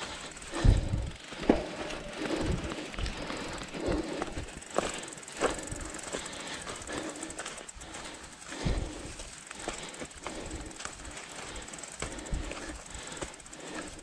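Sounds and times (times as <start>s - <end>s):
bike clicking and rattling: 0.0s - 14.0s.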